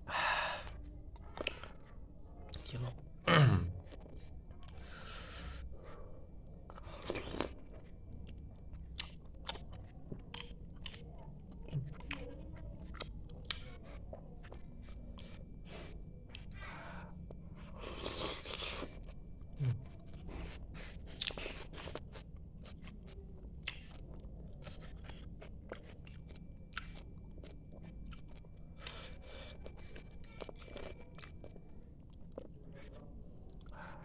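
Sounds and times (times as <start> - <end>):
wet chewing with mouth clicks: 0.6 - 1.9, 6.7 - 34.0.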